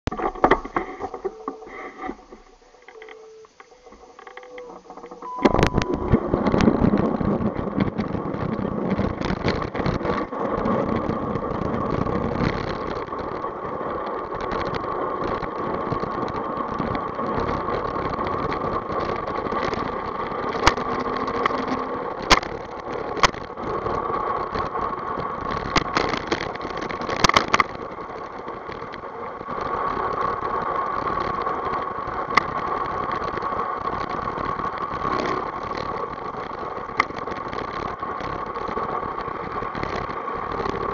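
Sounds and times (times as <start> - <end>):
bike and camera rattling: 0.0 - 40.9
steady whine: 0.1 - 40.9
tyre and wind rush: 0.1 - 40.9.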